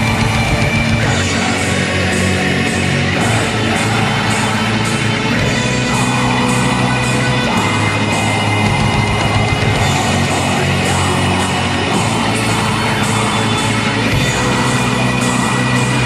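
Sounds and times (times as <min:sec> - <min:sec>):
distorted guitars and drums: 0:00.0 - 0:16.0.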